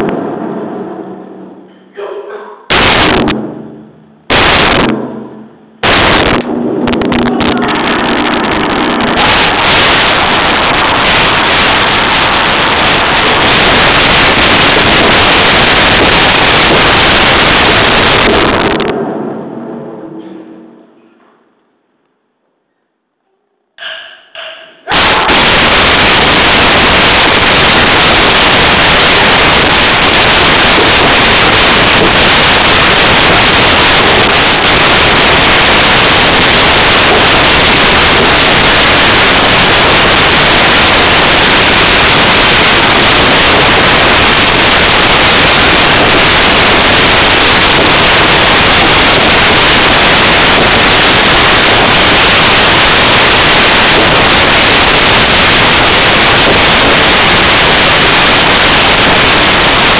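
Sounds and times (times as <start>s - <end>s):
distorted taiko drumming: 0.0s - 1.8s, 2.7s - 21.0s, 23.8s - 59.9s.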